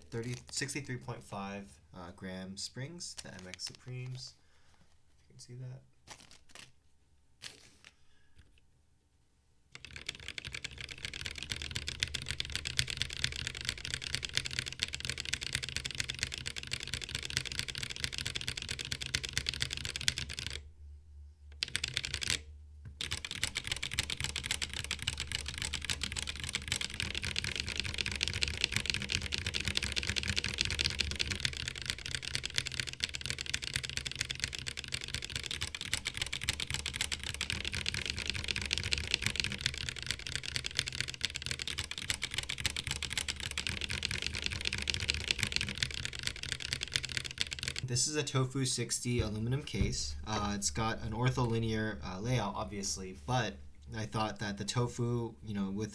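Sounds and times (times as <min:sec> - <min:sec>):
mechanical keyboard typing: 0:00.0 - 0:01.4, 0:09.8 - 0:20.6, 0:21.6 - 0:54.9.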